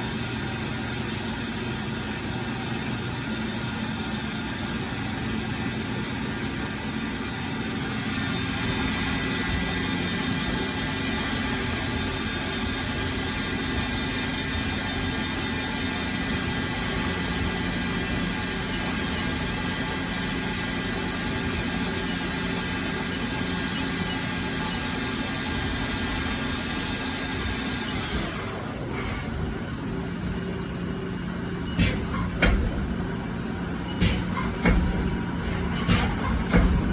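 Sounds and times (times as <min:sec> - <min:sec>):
lathe machine humming and whining: 0:00.0 - 0:36.9.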